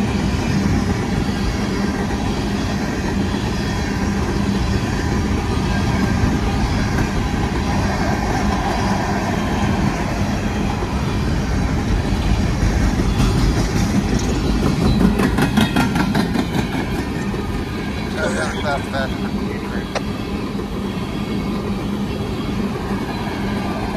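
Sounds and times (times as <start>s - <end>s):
constant hum: 0.0s - 23.9s
freight train wheels rumbling: 0.0s - 23.9s
wheels clattering over rails: 0.8s - 23.9s.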